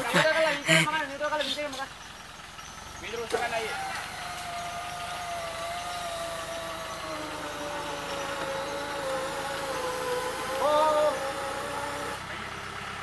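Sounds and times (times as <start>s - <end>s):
engine labouring with whine: 0.0s - 13.0s.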